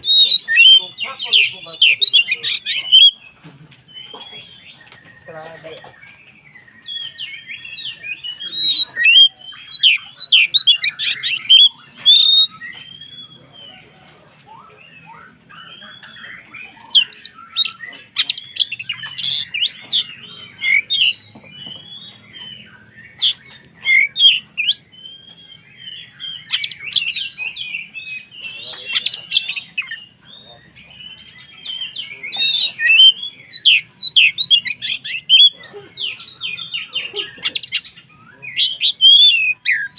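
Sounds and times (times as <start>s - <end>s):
bird chirping and whistling: 0.0s - 13.8s, 14.5s - 39.9s.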